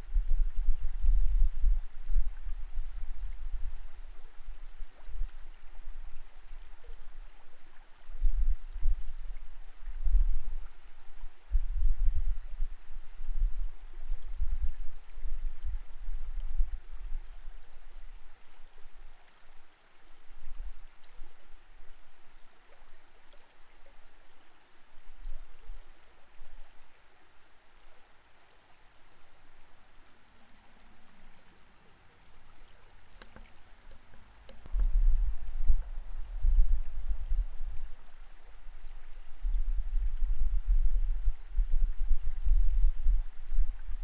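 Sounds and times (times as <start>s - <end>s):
creek water heard underwater: 0.0s - 44.0s.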